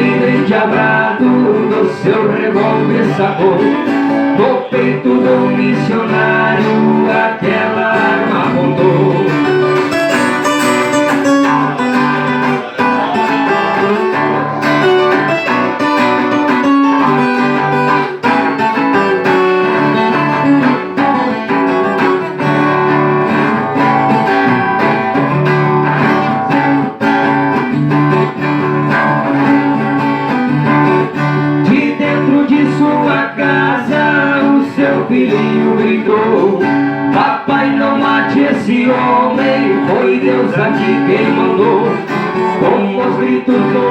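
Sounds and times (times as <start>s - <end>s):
acoustic guitars playing: 0.0s - 43.9s.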